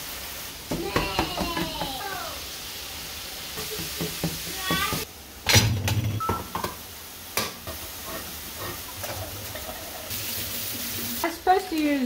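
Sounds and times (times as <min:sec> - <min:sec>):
food sizzling in a skillet: 0:00.0 - 0:05.5, 0:06.2 - 0:12.0.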